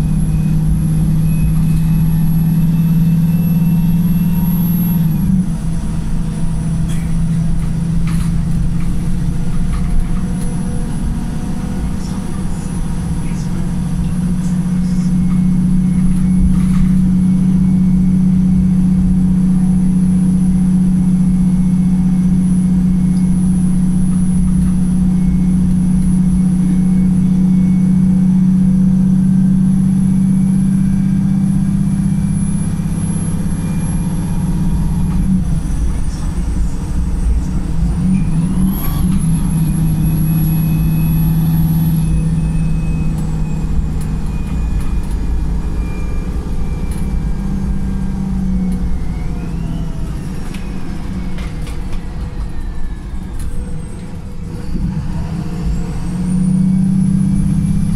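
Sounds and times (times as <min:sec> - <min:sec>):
bus diesel engine pulling: 0:00.0 - 0:57.9.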